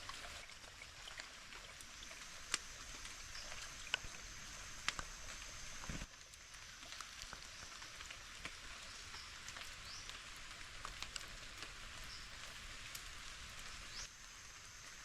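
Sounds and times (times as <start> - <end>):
light rain on leaves: 0.0 - 15.0.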